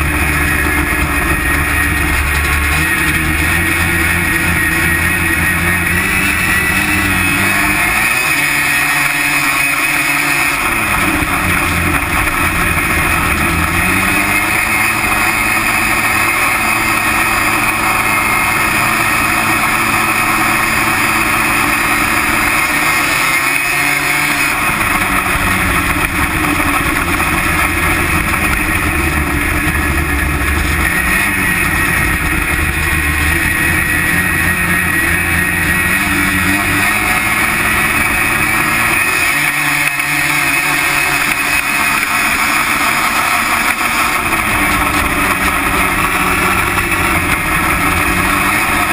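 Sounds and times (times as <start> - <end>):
snowmobile engine running hard: 0.0 - 48.9.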